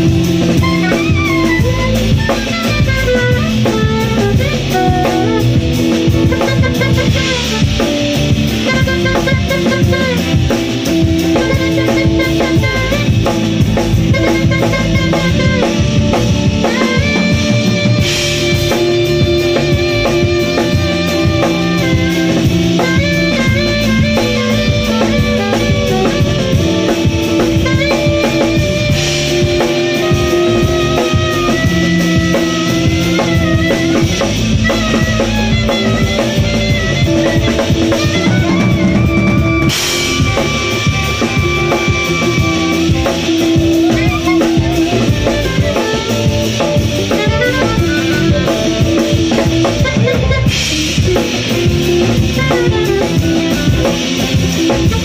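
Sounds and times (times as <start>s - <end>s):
alto saxophone: 0.0s - 55.0s
live jazz band: 0.0s - 55.0s.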